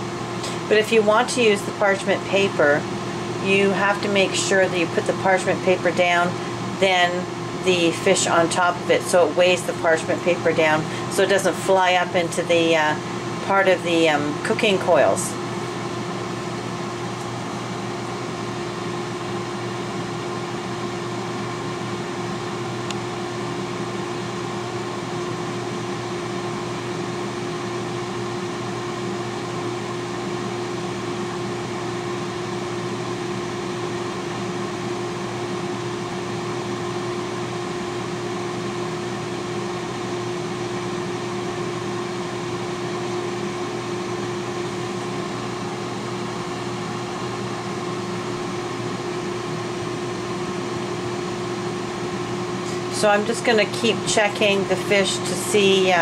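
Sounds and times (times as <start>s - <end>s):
air fryer fan whirring: 0.0s - 56.0s
air fryer hum: 0.0s - 56.0s.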